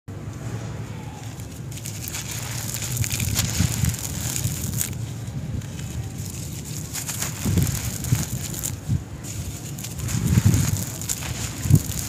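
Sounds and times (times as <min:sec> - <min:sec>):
gritty crumbling lumps crunching: 0:01.2 - 0:12.0.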